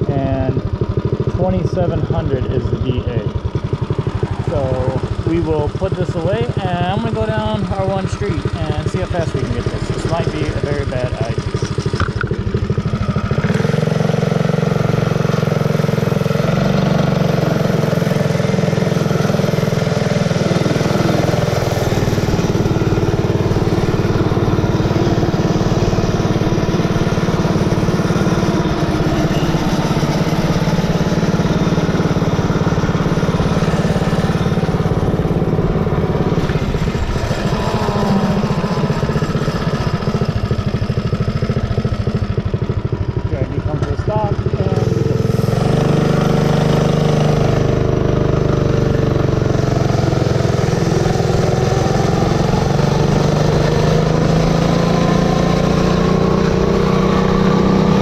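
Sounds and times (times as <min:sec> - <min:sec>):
mini bike engine at full throttle: 0:00.0 - 0:58.0.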